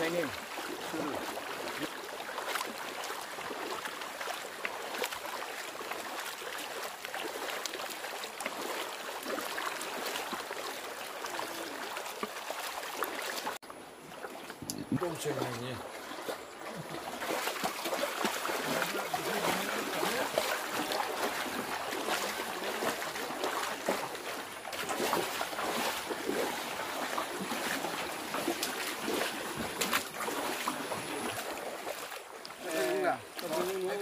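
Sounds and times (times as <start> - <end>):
floodwater rushing and splashing: 0.0 - 34.0.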